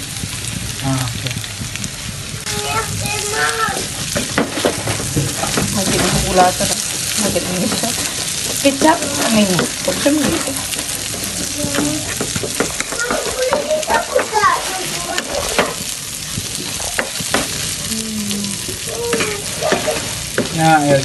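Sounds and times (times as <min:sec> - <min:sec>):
chicken sizzling in a frying pan: 0:00.0 - 0:21.0
wooden spatula scraping a pan: 0:02.7 - 0:17.9, 0:18.6 - 0:21.0.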